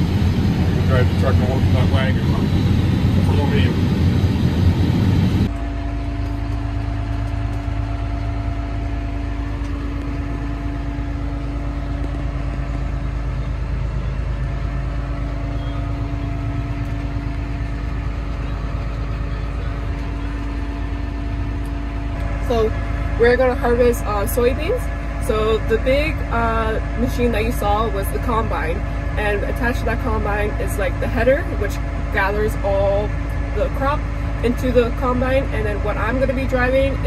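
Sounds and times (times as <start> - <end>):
farm machinery engine running: 0.0 - 37.0
loud rough machine noise: 0.0 - 37.0.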